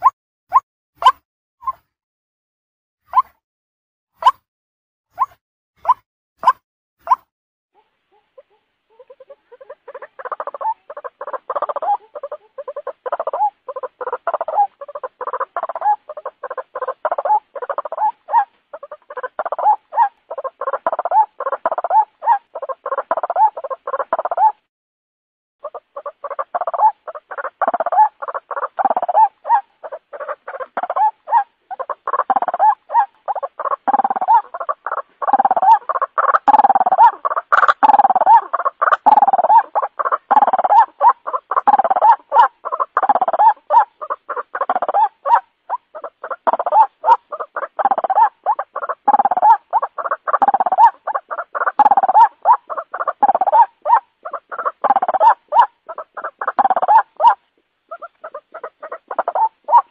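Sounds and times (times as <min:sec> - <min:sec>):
waterhen calling rapidly: 0:05.2 - 0:07.3, 0:08.1 - 0:24.6, 0:25.6 - 0:59.9.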